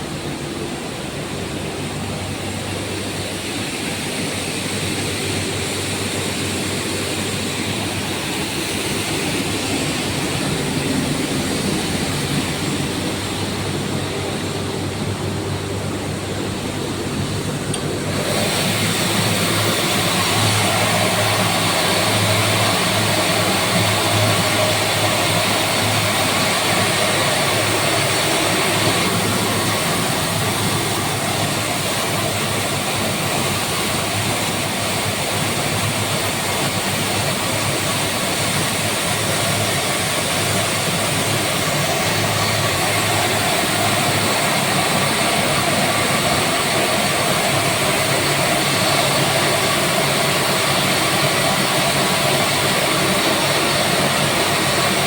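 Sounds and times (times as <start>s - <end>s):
air compressor running: 0.0s - 55.0s.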